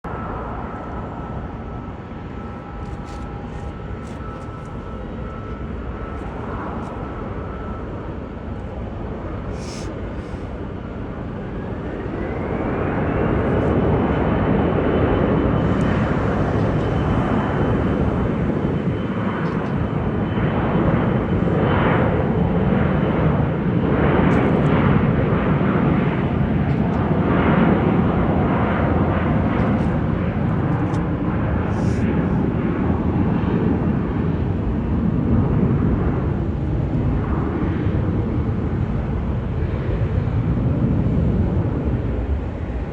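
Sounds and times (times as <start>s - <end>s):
jet engines whining: 0.1s - 42.9s.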